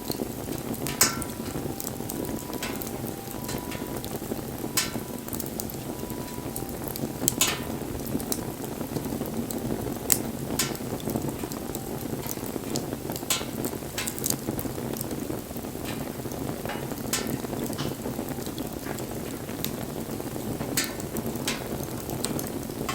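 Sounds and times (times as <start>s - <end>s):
fire crackling and popping: 0.0s - 22.9s
low rush of bonfire flames: 0.0s - 22.9s.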